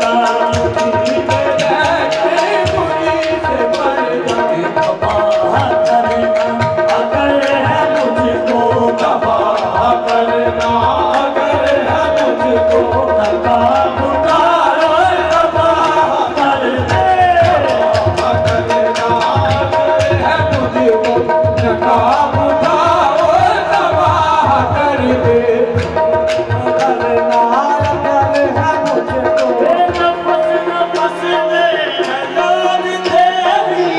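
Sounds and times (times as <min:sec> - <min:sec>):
men singing: 0:00.0 - 0:33.9
tabla drumming: 0:00.0 - 0:33.9.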